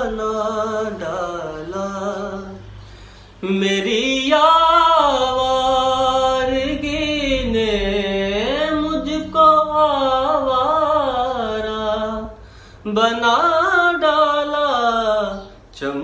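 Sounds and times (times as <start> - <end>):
man singing unaccompanied: 0.0 - 2.8, 3.4 - 16.0.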